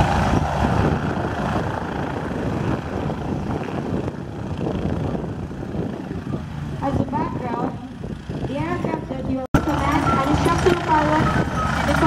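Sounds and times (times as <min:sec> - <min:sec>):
helicopter rotor and engines: 0:00.0 - 0:12.0.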